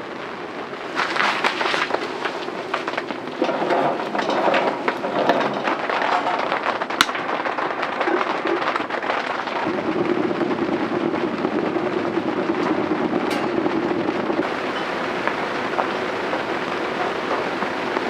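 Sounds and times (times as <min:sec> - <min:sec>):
rain pattering on a tarp: 0:00.0 - 0:18.0.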